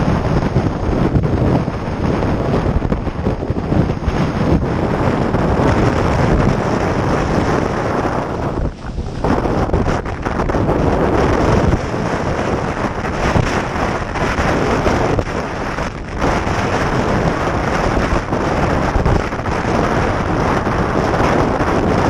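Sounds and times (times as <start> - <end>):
water splashing around kayak: 0.0 - 22.0
wind buffeting microphone: 0.0 - 22.0.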